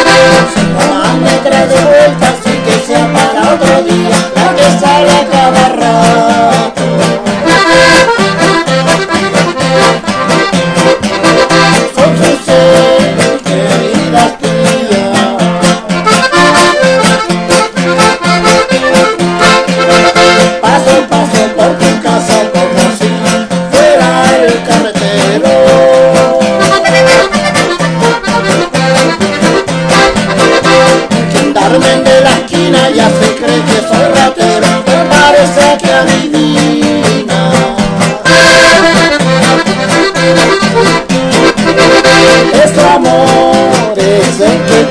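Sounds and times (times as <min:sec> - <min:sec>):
piano accordion melody: 0:00.0 - 0:14.3, 0:15.4 - 0:21.7, 0:25.6 - 0:35.8, 0:37.8 - 0:44.9
acoustic guitar strumming: 0:00.0 - 0:44.9.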